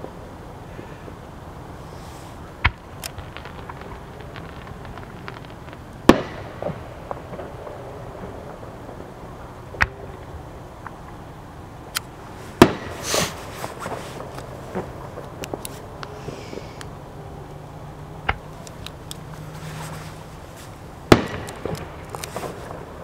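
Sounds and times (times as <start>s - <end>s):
fireworks crackling: 0.0s - 23.0s
fireworks bursting with bangs: 1.7s - 11.1s, 12.1s - 16.9s, 18.3s - 23.0s.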